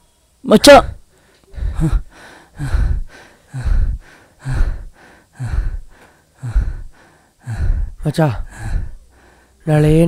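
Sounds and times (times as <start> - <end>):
person breathing heavily: 0.7 - 9.7.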